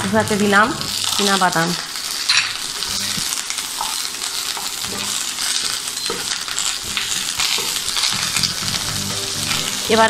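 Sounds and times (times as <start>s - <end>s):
food sizzling in oil: 0.0s - 10.0s
spatula stirring in pan: 0.9s - 10.0s.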